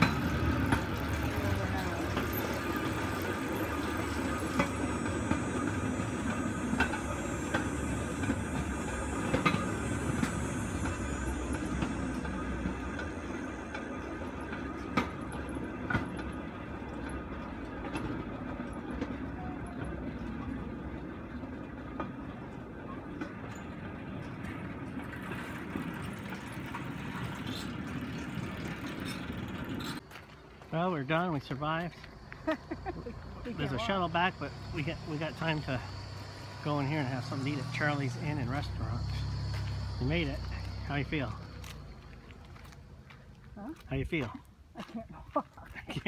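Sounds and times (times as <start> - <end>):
steel wheels rumbling on rails: 0.0 - 46.0.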